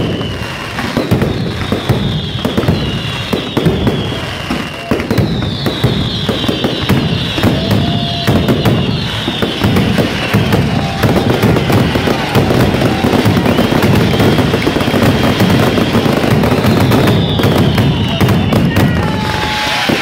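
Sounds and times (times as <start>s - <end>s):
fireworks crackling bangs: 0.0s - 20.0s.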